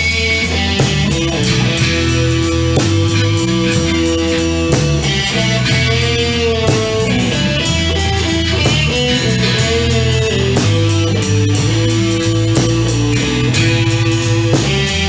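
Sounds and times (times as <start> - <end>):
bass and drums: 0.0 - 15.0
electric guitar bending notes: 0.0 - 15.0.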